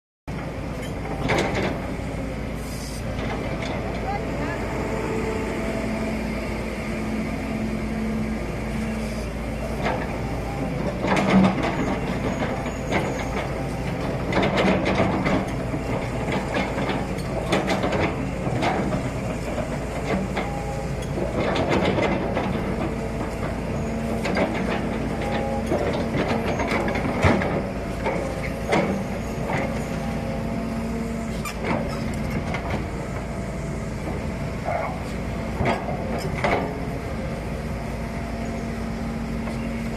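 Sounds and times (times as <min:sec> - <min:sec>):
excavator diesel engine running: 0:00.3 - 0:39.9.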